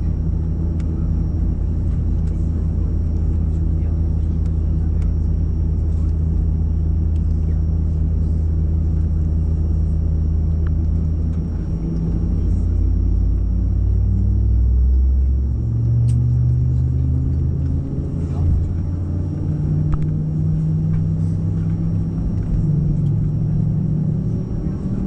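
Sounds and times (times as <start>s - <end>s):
aircraft cabin rumble: 0.0s - 25.0s
faint high whine: 0.0s - 25.0s.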